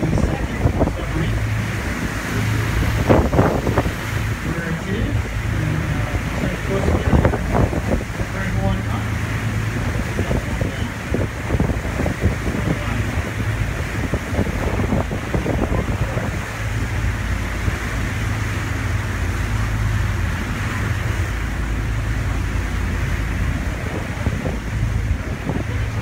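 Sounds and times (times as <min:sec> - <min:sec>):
boat and sea rumble: 0:00.0 - 0:26.0
wind buffeting microphone: 0:00.0 - 0:26.0.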